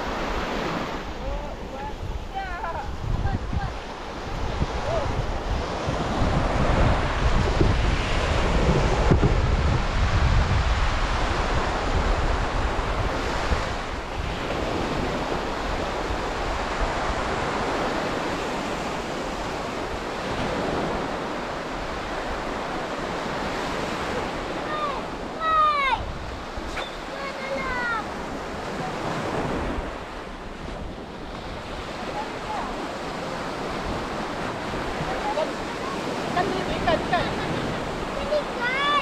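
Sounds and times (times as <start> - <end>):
surf breaking on beach: 0.0 - 39.0
wind buffeting microphone: 0.0 - 39.0.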